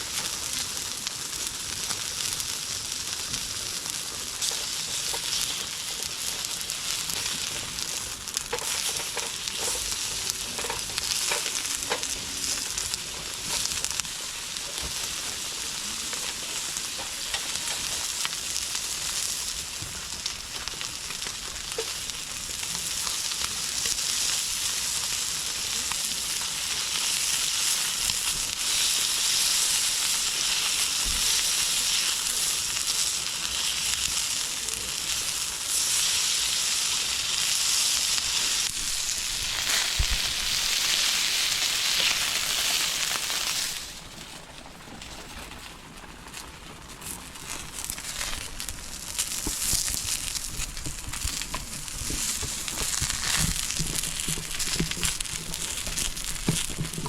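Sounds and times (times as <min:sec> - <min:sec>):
food sizzling in a pan: 0:00.0 - 0:44.1, 0:47.0 - 0:57.0.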